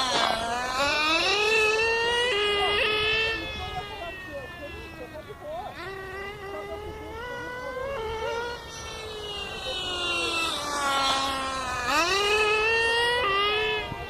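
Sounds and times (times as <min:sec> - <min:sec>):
nitro engines buzzing at high revs: 0:00.0 - 0:14.0.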